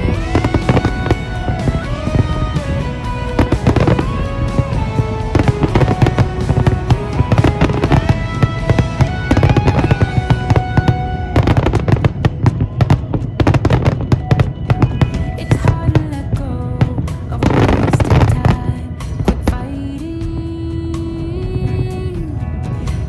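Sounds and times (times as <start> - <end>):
fireworks bursting: 0.0 - 19.5
music playing: 0.0 - 23.0.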